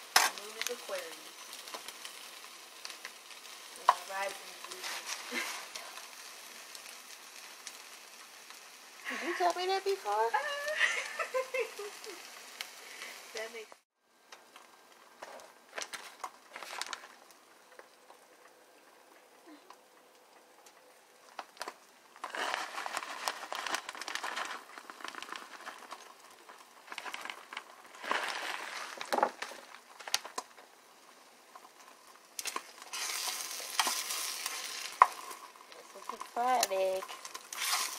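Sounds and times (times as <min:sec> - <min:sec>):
eggs sizzling in frying pan: 0:00.0 - 0:37.9.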